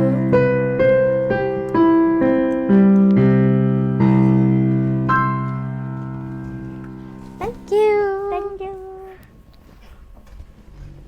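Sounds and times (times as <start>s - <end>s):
slow electric piano: 0.0s - 9.3s.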